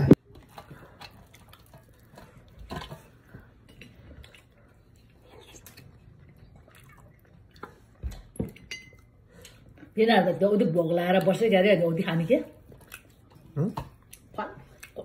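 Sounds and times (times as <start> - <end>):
soft wet food sounds: 0.1 - 15.0.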